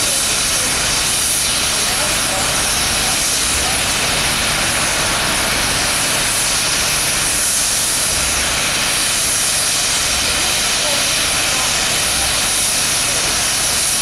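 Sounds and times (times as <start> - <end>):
roar of escaping steam: 0.0 - 14.0.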